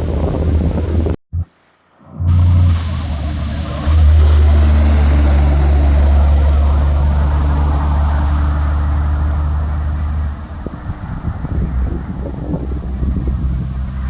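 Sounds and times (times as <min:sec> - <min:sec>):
heavy truck engine drone: 0:00.0 - 0:14.0
tyre and road noise: 0:00.0 - 0:14.0.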